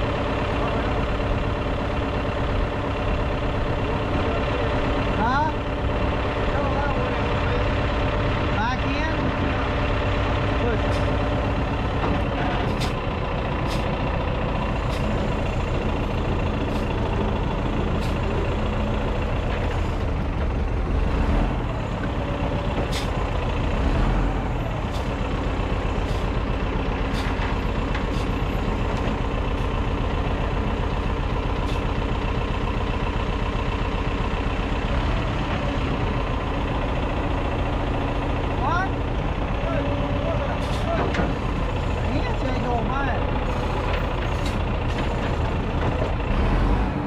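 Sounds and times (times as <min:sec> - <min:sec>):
heavy engine running: 0:00.0 - 0:47.0.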